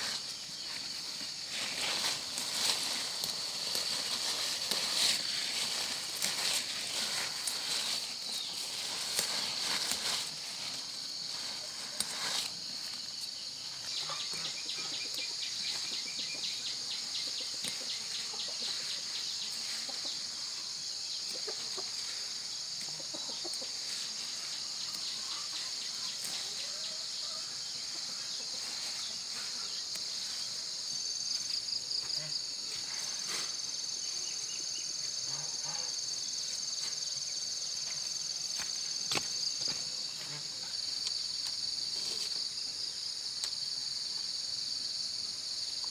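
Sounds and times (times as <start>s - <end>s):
fast pulsing insect call: 0.0s - 45.9s
high-pitched insect chorus: 0.0s - 45.9s.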